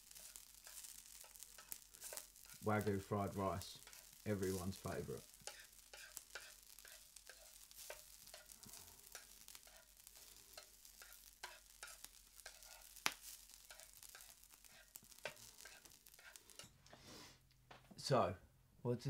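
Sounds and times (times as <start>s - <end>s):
rice sizzling in fat: 0.0s - 17.4s.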